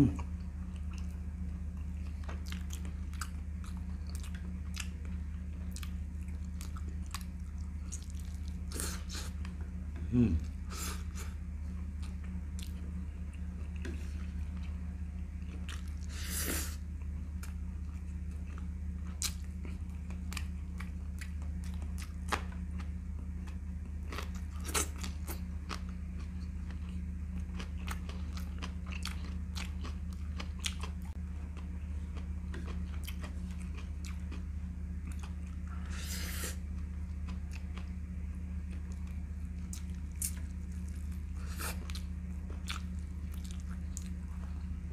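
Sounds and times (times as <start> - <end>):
man chewing: 0.0 - 44.9
steady low hum: 0.0 - 44.9.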